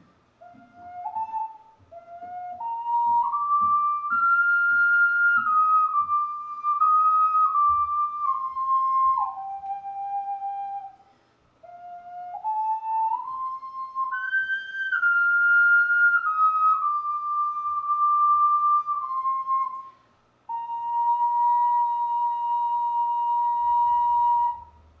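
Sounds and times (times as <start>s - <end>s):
ocarina melody: 0.0s - 25.0s.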